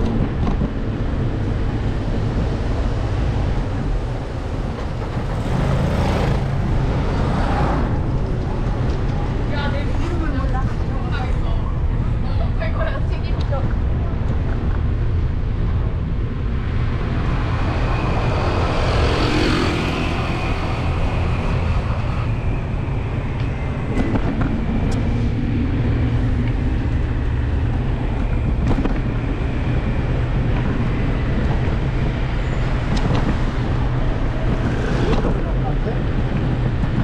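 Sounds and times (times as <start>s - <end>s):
road and wind noise: 0.0s - 37.0s.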